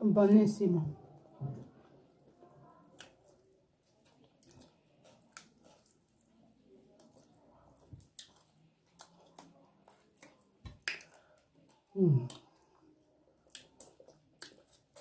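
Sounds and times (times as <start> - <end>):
lip smacks and chewing: 2.8 - 15.0.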